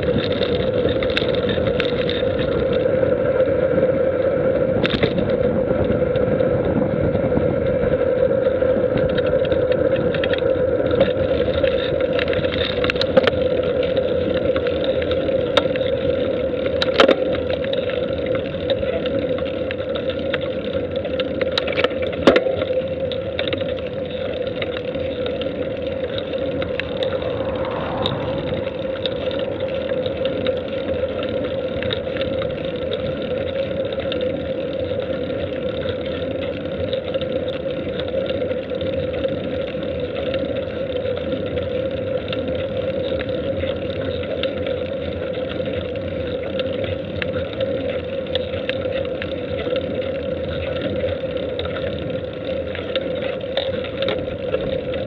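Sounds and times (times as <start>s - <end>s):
vehicle road noise: 0.0s - 55.0s.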